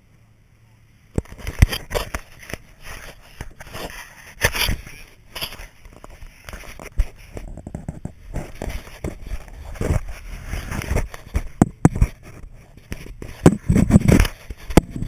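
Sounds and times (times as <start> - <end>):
camera rubbing on rain gear: 1.2 - 15.0.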